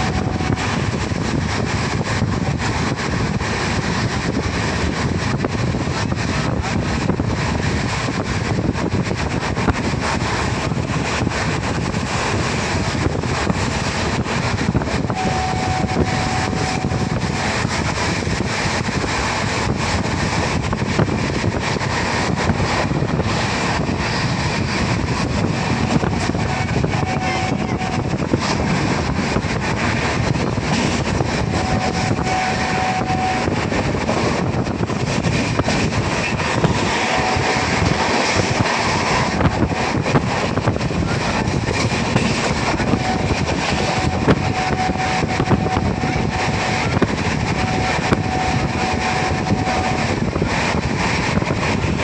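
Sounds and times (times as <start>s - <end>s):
train wheel and track noise: 0.0s - 52.0s
wind buffeting microphone: 0.0s - 52.0s.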